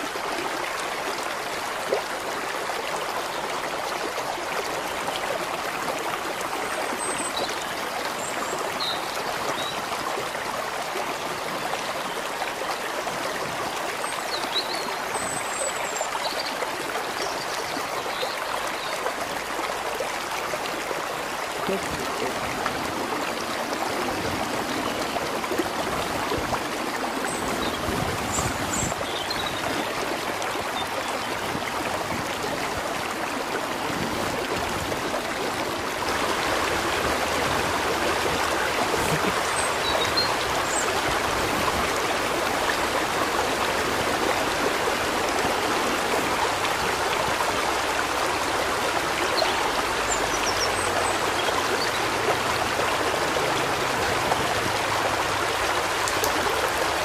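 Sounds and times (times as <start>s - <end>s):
stream water running over rocks: 0.0s - 57.0s.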